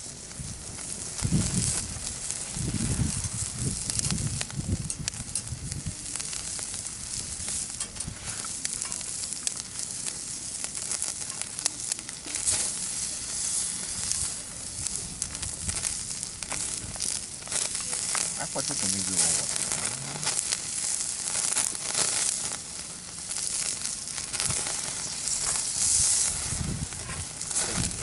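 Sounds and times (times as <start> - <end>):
food sizzling on grill: 0.0 - 28.0
wood fire crackling and popping: 0.0 - 28.0.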